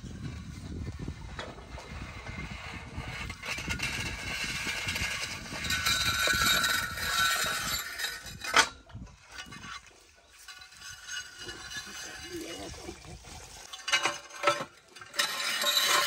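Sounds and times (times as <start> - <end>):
metal pipe scraping and clinking: 0.0 - 16.0.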